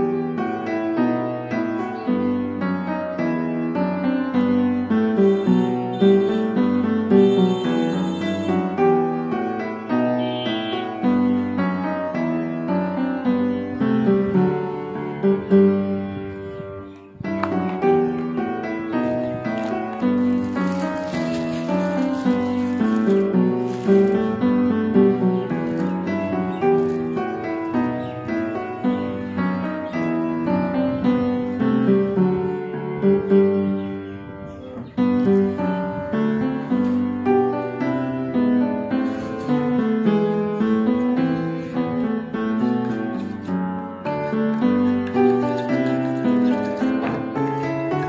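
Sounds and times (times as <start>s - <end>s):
piano music: 0.0s - 48.0s.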